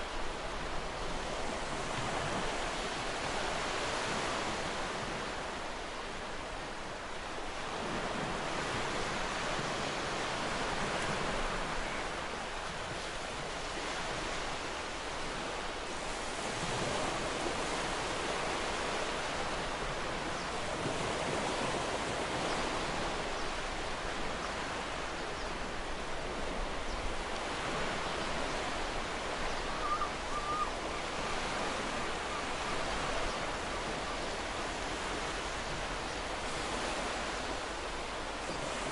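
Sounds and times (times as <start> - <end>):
surf washing on a beach: 0.0 - 38.9.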